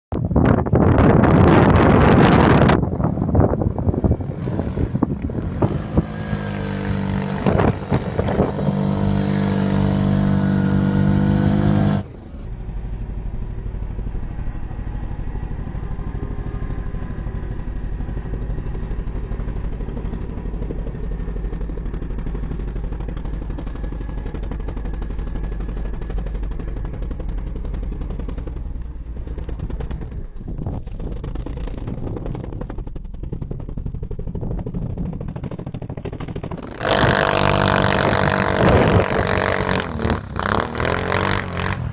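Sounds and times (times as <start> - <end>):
engine revving: 0.8 - 41.9.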